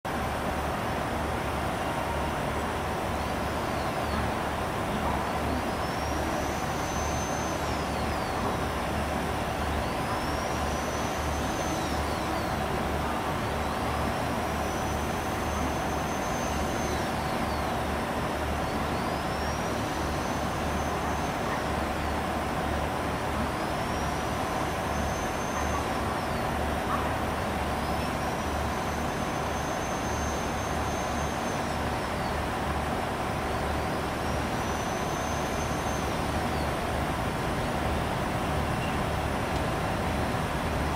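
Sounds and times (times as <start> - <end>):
electric train rumbling: 0.1 - 40.9.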